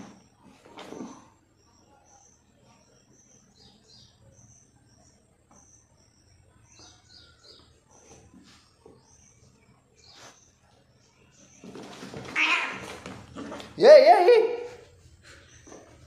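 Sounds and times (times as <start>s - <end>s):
faint high-pitched chirping: 0.0s - 16.0s.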